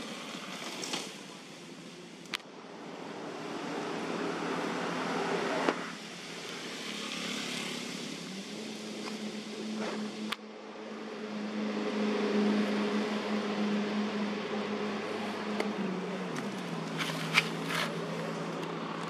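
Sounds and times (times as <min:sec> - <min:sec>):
engine running: 0:00.0 - 0:19.0
rushing outdoor background: 0:00.0 - 0:19.0.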